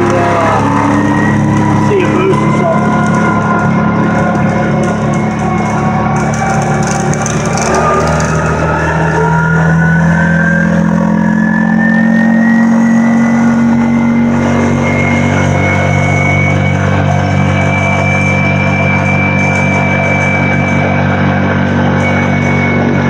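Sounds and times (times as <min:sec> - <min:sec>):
atv engine whining: 0:00.0 - 0:23.0.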